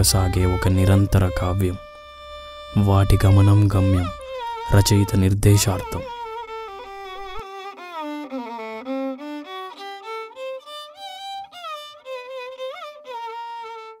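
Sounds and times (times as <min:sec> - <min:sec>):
solo violin melody: 0:00.0 - 0:14.0.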